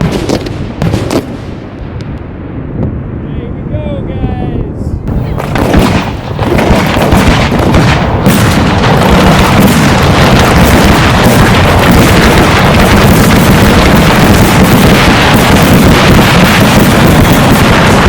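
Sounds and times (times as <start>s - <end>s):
fireworks booms and pops: 0.0s - 3.0s, 5.0s - 18.0s.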